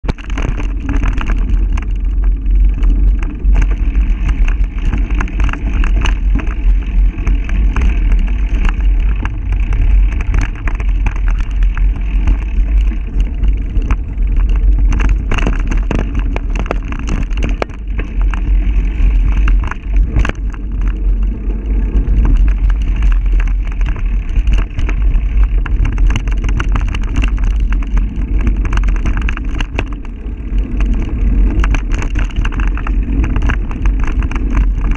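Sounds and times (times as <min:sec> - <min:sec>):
bike rattling and knocking: 0:00.0 - 0:34.9
muffled wind rumble: 0:00.0 - 0:34.9.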